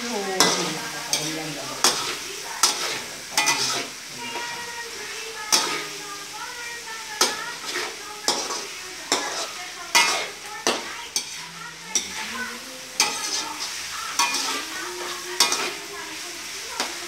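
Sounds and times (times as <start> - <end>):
meat sizzling in a pan: 0.0 - 17.0
metal spoon scraping a wok: 0.2 - 6.4, 7.1 - 17.0.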